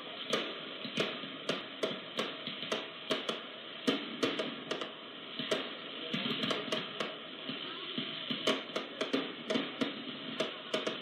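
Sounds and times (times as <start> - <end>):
fireworks banging and cracking: 0.0 - 11.0
steady hiss: 0.0 - 11.0.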